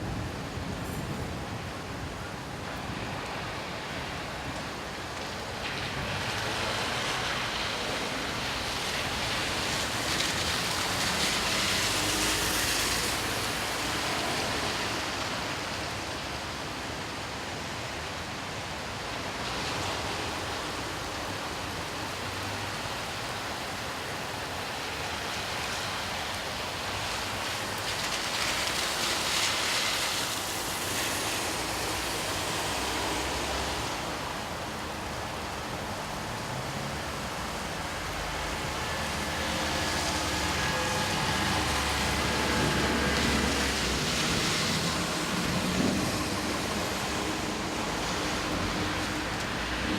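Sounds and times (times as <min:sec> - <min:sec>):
car tyres swishing on wet road: 0:00.0 - 0:49.9
steady rain hiss: 0:00.0 - 0:49.9.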